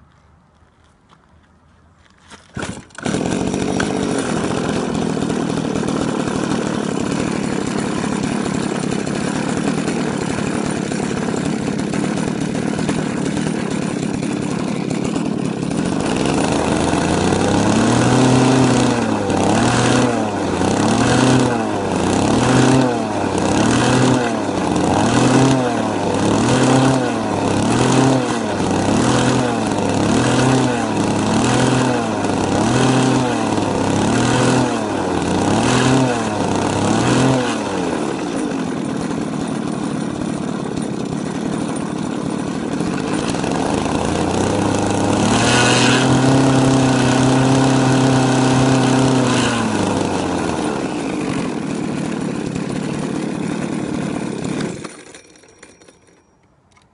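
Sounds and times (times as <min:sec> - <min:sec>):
model boat engine revving: 0:02.6 - 0:55.0.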